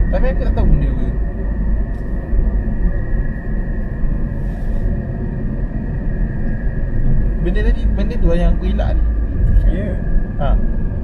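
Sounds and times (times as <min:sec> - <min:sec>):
car interior road rumble: 0:00.0 - 0:11.0
faint high hum: 0:00.0 - 0:11.0.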